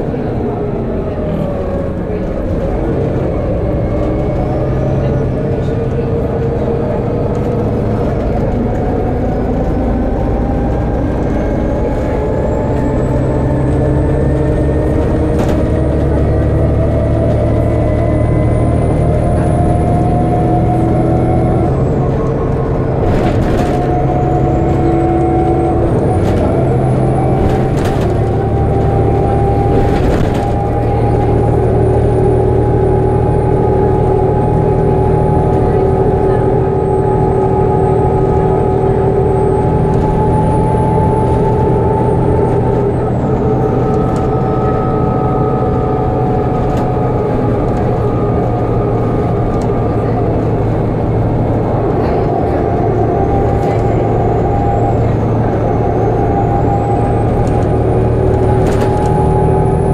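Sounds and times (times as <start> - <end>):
bus engine droning with whine: 0.0 - 59.9.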